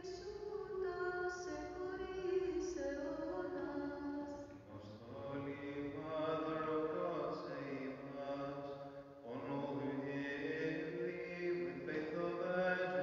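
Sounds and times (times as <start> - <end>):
person chanting: 0.0 - 13.0.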